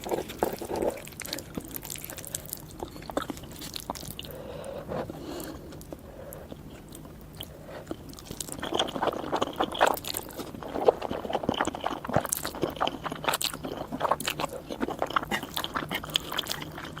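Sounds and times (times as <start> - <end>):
mouth chewing noodles: 0.0 - 17.0.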